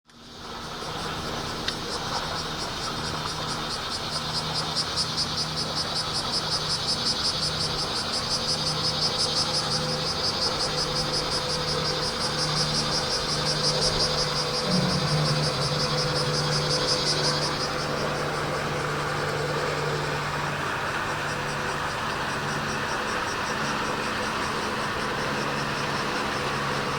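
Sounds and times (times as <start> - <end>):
cicadas buzzing: 0.1 - 26.9
steady low hum: 0.2 - 26.9.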